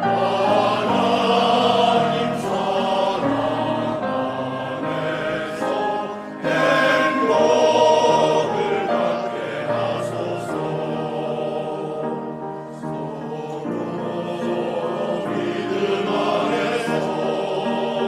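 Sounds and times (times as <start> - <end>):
church choir singing: 0.0 - 18.0
piano accompaniment: 0.0 - 18.0.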